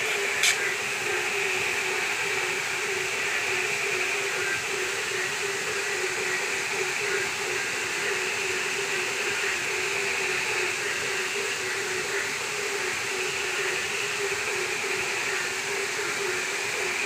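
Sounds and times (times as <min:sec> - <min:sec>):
faint wavering hum: 0:00.0 - 0:17.0
heavy rain hissing: 0:00.0 - 0:17.0.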